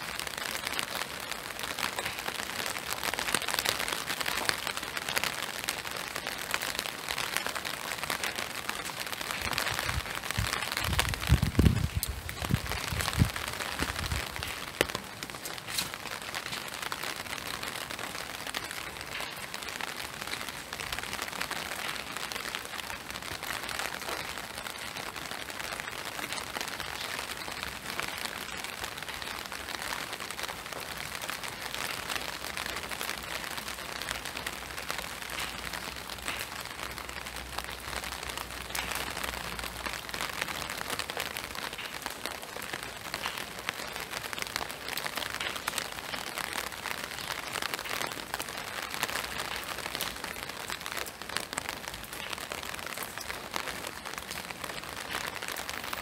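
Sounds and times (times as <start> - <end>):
rain falling steadily: 0.0 - 56.0
single raindrops ticking: 0.0 - 56.0.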